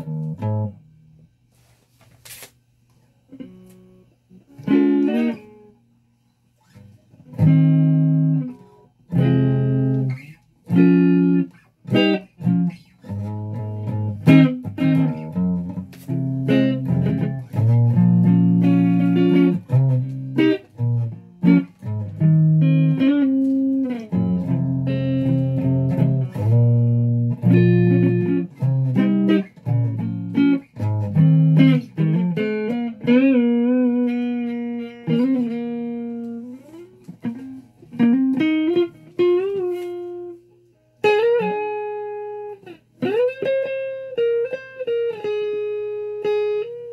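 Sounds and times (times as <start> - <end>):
electric guitar playing: 0.0 - 1.2, 3.3 - 5.9, 6.6 - 46.9.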